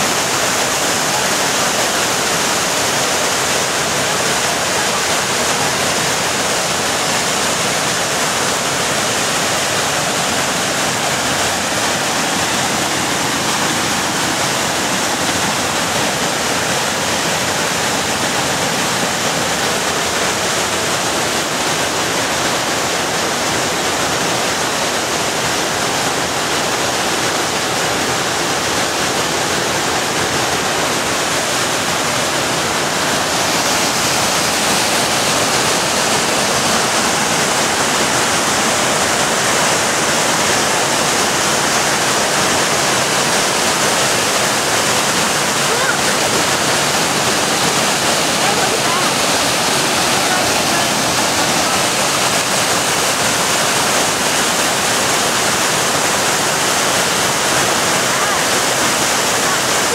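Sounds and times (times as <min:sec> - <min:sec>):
whitewater rushing over boulders: 0:00.0 - 0:59.9.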